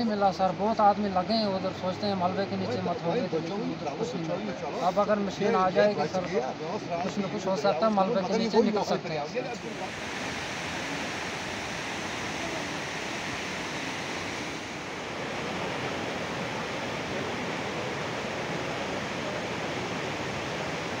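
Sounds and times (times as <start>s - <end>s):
rushing floodwater stream: 0.0s - 21.0s.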